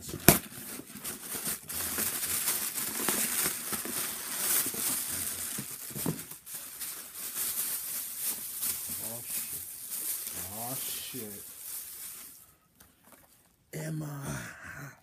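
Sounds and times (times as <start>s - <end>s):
packaging rustling and crinkling: 0.0s - 13.6s.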